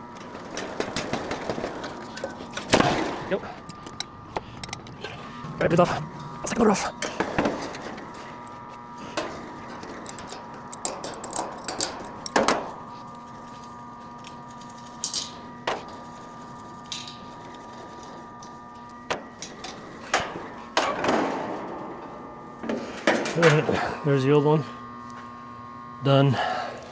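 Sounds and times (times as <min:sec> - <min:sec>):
faint steady hum: 0:00.0 - 0:26.9
hand tools clinking and scraping: 0:00.1 - 0:24.2.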